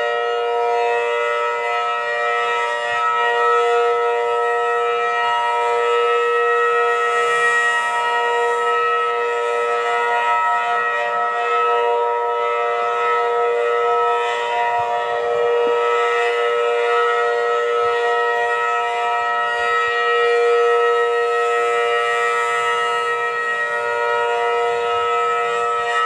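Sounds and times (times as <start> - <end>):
outdoor warning siren steady tone: 0.0 - 26.0.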